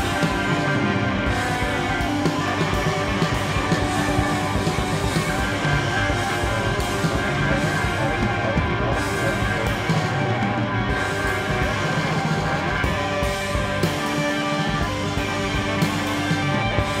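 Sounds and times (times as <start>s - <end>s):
drum kit with cymbal crashes: 0.0s - 17.0s
electric guitar: 0.0s - 17.0s
keyboards: 0.0s - 17.0s.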